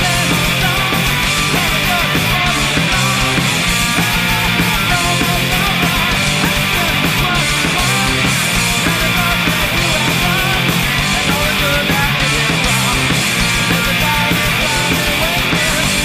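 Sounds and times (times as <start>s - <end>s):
alternative rock band playing live: 0.0s - 16.0s.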